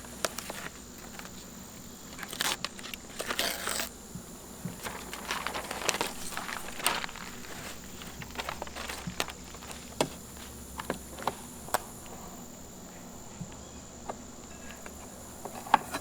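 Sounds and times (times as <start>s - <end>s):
foam padding crinkling and rustling: 0.0s - 16.0s.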